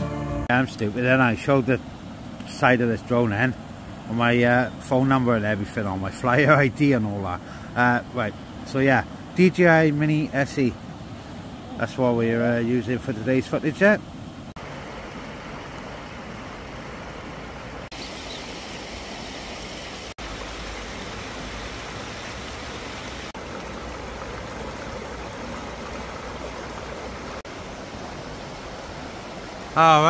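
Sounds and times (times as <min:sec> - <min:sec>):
stream rushing over stones: 0:00.0 - 0:30.0.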